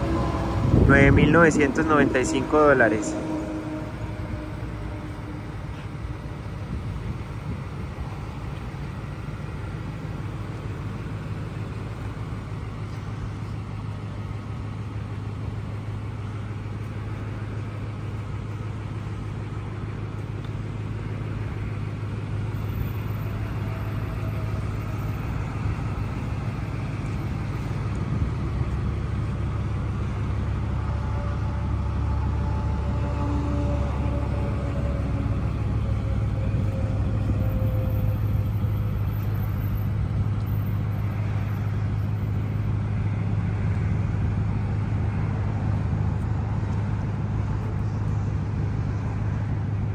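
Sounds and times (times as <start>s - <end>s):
pickup engine idling: 0.0s - 49.9s.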